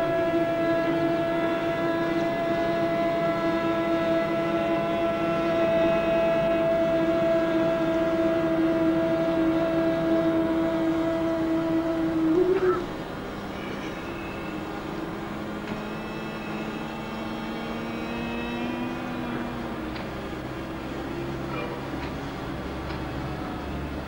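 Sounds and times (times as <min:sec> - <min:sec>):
group humming a steady note: 0:00.0 - 0:24.0.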